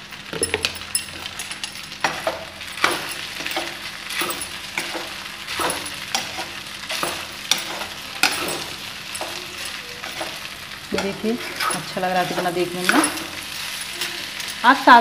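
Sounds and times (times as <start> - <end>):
rice sizzling in a wok: 0.0 - 15.0
spatula scraping a pan: 1.2 - 14.6.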